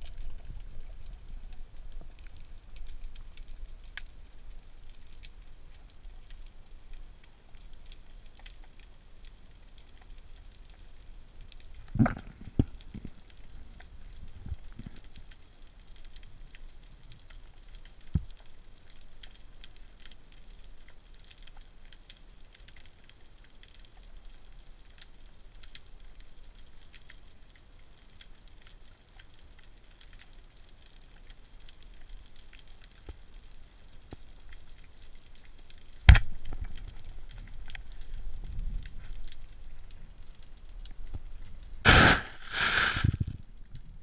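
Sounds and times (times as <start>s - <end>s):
underwater crackling: 0.0s - 44.0s.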